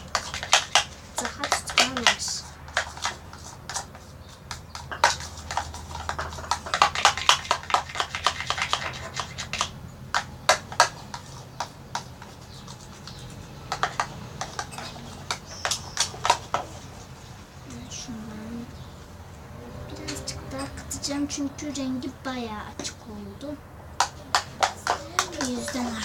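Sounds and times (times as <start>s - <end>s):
slime mixing clicking and tapping: 0.0s - 17.0s, 21.0s - 26.0s.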